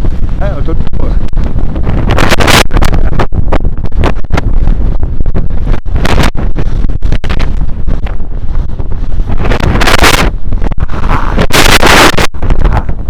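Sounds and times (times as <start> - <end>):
gale buffeting microphone: 0.0 - 13.0
hissing wind gusts: 0.0 - 13.0.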